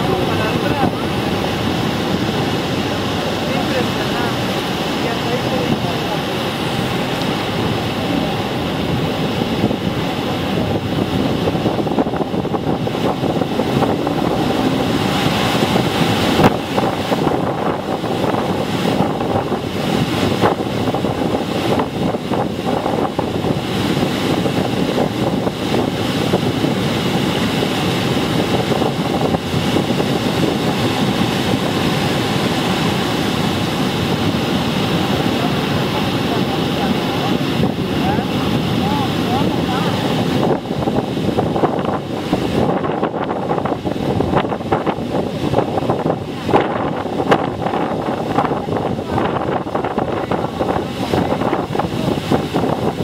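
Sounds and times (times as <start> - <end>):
boat motor running: 0.0 - 53.0
waterfall rushing: 0.0 - 53.0
wind on microphone: 0.0 - 53.0.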